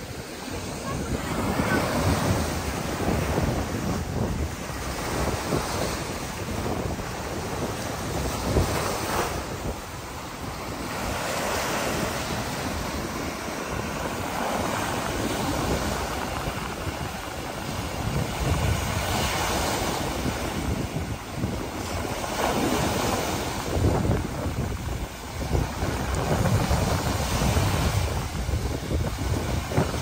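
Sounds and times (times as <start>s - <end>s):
small surf breaking on shore: 0.0s - 30.0s
wind rumbling on microphone: 0.0s - 30.0s.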